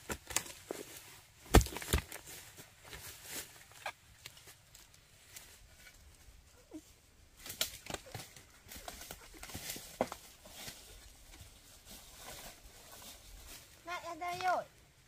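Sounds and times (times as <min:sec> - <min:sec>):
rustling and crackling: 0:00.0 - 0:14.7.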